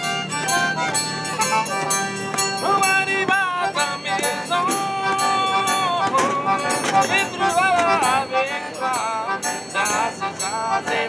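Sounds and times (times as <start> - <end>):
button accordion chords: 0.0 - 11.0
fiddle playing: 0.0 - 11.0.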